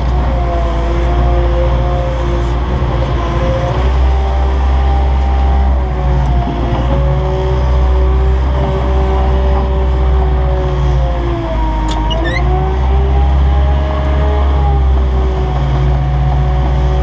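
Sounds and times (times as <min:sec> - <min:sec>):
diesel engine rumbling with whine: 0:00.0 - 0:17.0.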